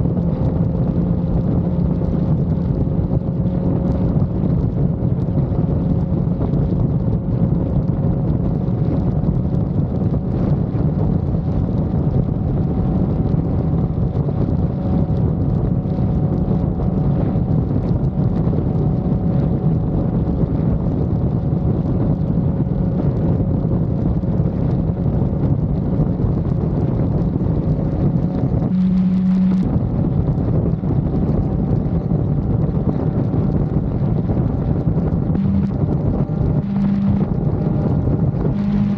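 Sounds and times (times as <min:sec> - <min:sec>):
motorcycle engine running: 0:00.0 - 0:38.9
steady low tone: 0:00.0 - 0:38.9
wind buffeting the microphone: 0:00.0 - 0:38.9.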